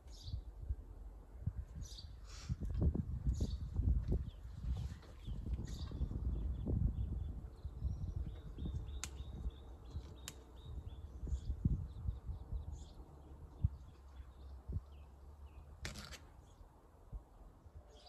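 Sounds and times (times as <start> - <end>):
small birds chirping: 0.0 - 0.5, 1.8 - 2.6, 3.2 - 16.8.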